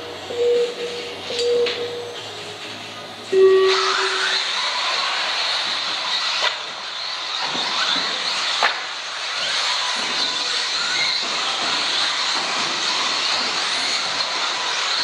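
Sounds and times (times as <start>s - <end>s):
rc car motor whine: 0.0s - 15.0s.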